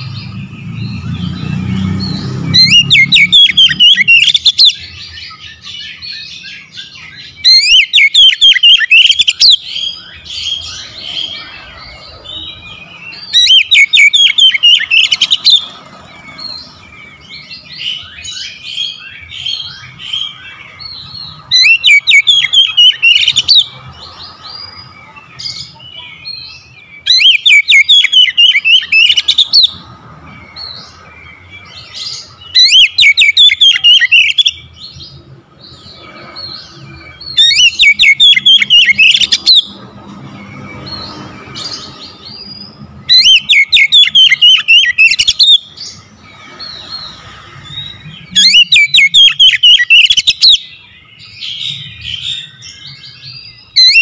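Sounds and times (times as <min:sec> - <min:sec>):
bird song bursts of rapid notes: 0:00.0 - 0:54.0
soft bird chirps and whistles: 0:00.0 - 0:54.0.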